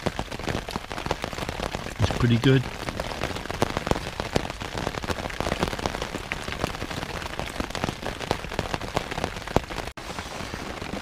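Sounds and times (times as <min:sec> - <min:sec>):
heavy rain on tent canvas: 0:00.0 - 0:11.0.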